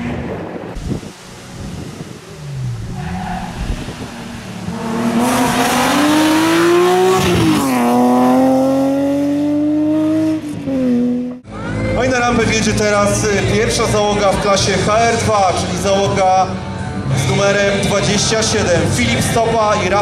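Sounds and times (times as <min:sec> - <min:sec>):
rally car engine at full throttle: 0:00.0 - 0:20.0.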